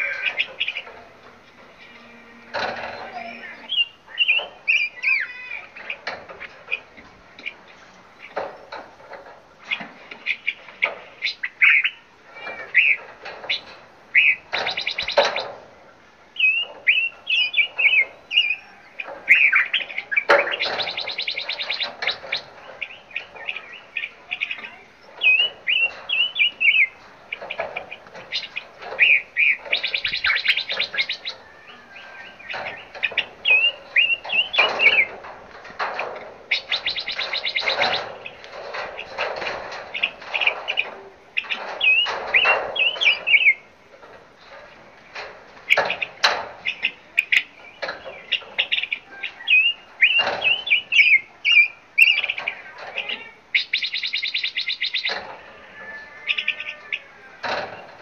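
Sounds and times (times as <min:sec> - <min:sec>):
harsh buzzy bird chatter: 0:00.0 - 0:55.6
songbirds singing: 0:00.0 - 0:58.0.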